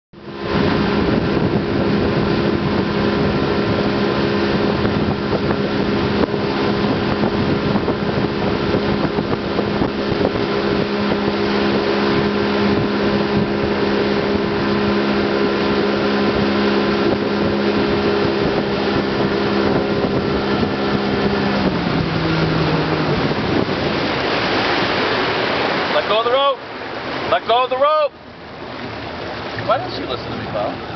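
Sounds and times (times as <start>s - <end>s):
wind on microphone: 0.2s - 27.4s
boat engine running: 0.2s - 30.9s.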